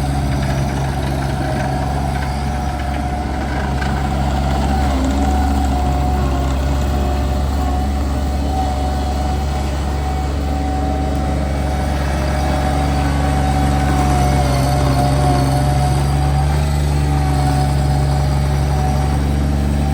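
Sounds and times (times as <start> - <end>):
loader engine running: 0.0 - 19.9.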